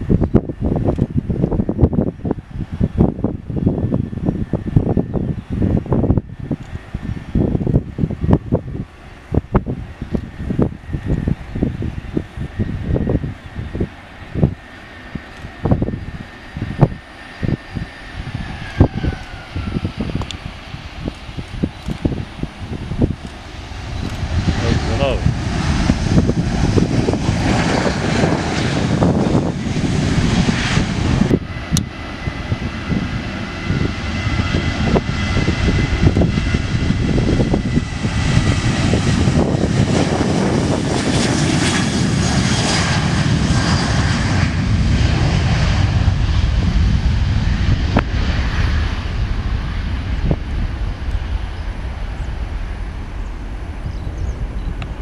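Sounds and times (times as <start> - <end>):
jet airliner engines roaring: 0.0 - 55.0.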